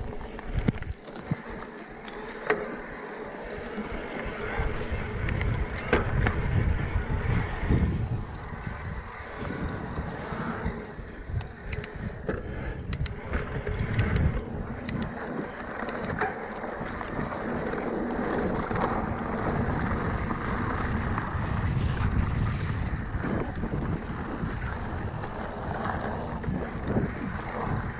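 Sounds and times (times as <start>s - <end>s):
bike clicks and rattles: 0.0s - 27.9s
tyres rolling on dirt: 0.0s - 27.9s
wind buffeting microphone: 3.5s - 27.9s.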